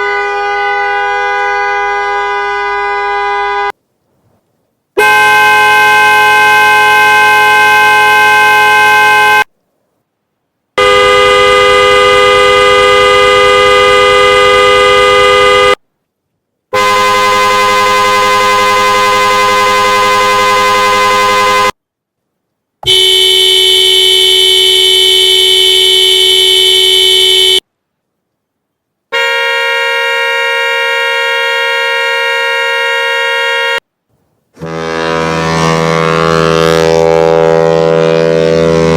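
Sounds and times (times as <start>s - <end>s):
car horn blasts: 0.0s - 3.7s, 5.0s - 9.5s, 10.8s - 15.8s, 16.8s - 21.8s, 22.8s - 27.6s, 29.1s - 33.8s, 34.6s - 38.9s.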